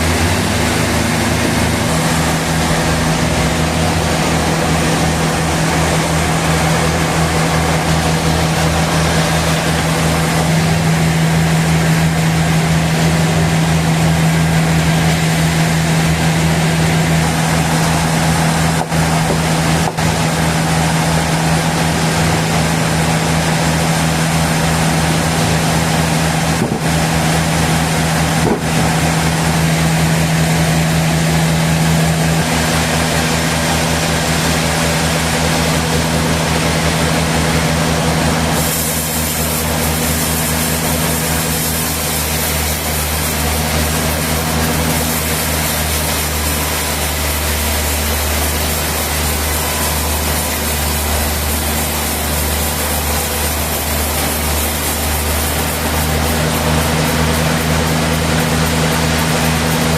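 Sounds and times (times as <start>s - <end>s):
loud noisy whir: 0.0s - 59.9s
sawmill machinery hum: 0.0s - 59.9s.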